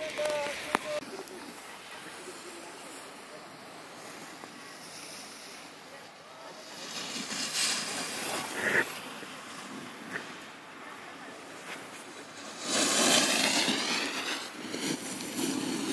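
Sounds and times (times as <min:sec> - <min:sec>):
snowboard scraping through snow: 0:00.0 - 0:15.9.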